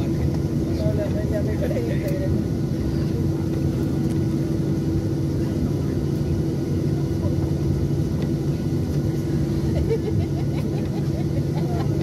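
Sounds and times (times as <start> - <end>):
airplane cabin rumble: 0.0 - 12.0
steady hum: 0.0 - 12.0.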